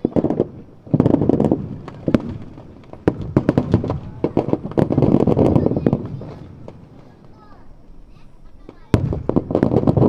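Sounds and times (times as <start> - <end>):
fireworks crackling: 0.0 - 10.0
fireworks rumbling boom: 0.0 - 10.0.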